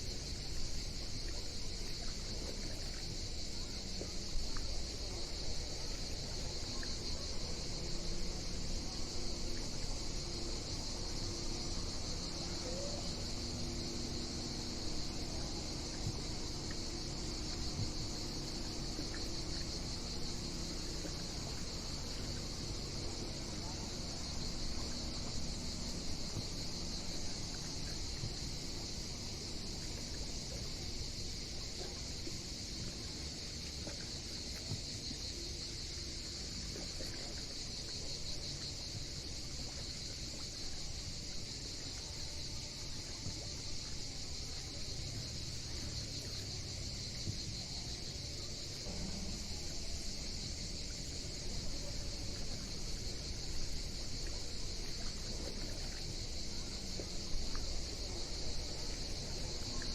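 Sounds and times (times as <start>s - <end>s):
chorus of insects: 0.0s - 59.9s.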